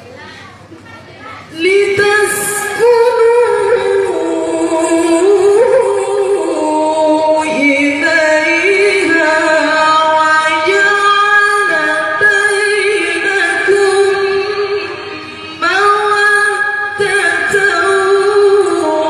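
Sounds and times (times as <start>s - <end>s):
woman reciting melodically: 0.0s - 19.0s.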